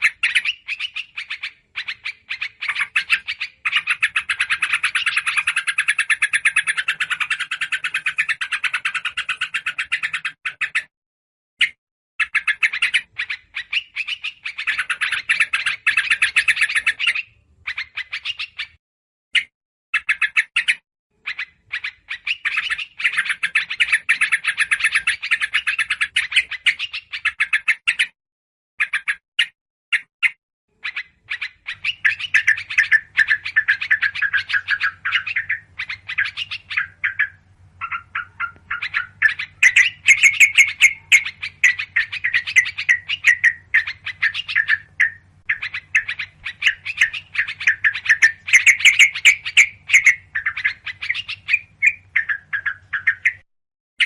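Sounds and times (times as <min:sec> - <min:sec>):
scolding bird chatter: 0:00.0 - 0:10.9, 0:11.6 - 0:28.2, 0:28.8 - 0:53.5
small bird calls: 0:00.0 - 0:10.9, 0:11.6 - 0:28.2, 0:28.8 - 0:53.5.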